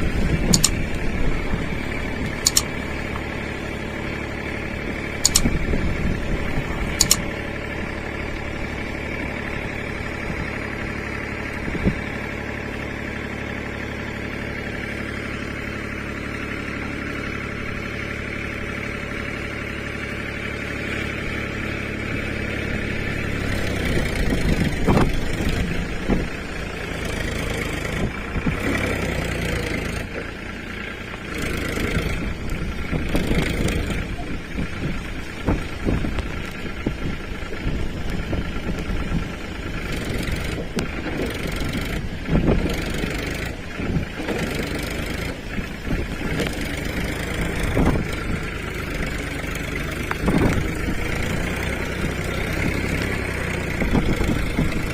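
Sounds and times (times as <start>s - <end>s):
engine knocks: 0.0s - 54.9s
tractor diesel engine idling: 0.0s - 54.9s.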